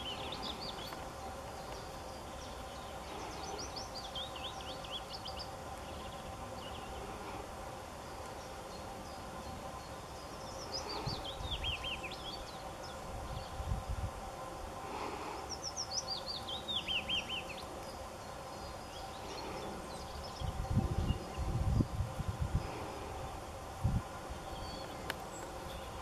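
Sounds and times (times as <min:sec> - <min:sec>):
songbird singing: 0:00.0 - 0:26.0
steady outdoor hum: 0:00.0 - 0:26.0.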